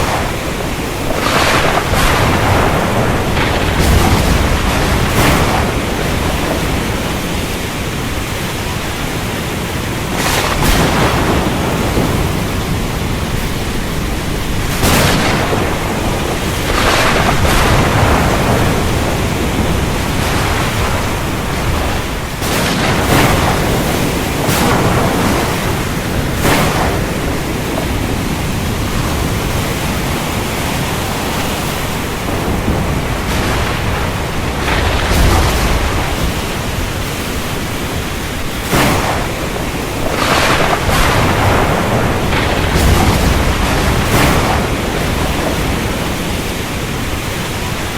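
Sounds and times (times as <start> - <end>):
heavy rain pouring: 0.0 - 47.9
sharp thunder cracks: 0.0 - 47.9.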